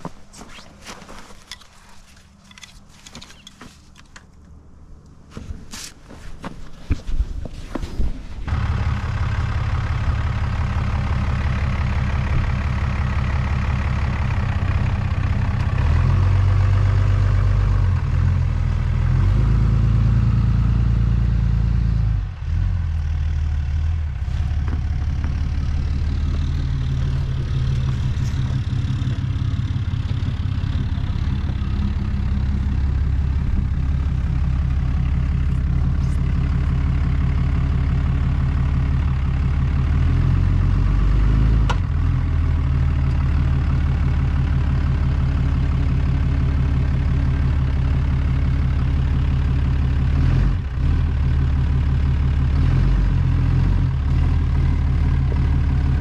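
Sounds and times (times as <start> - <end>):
diesel engine running: 8.4 - 56.0.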